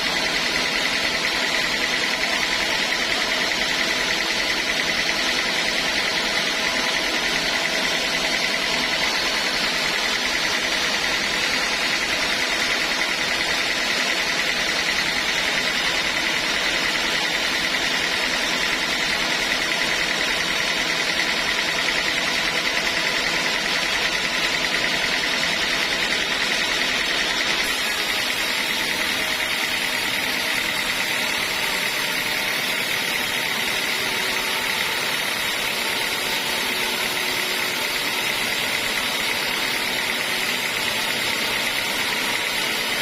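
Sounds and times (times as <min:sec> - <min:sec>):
high machine whine: 0:00.0 - 0:43.0
sawmill machinery hum: 0:00.0 - 0:43.0.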